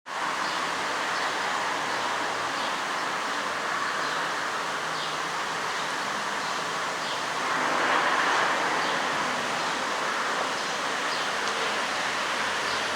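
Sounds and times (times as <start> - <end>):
heavy rain: 0.1 - 12.9.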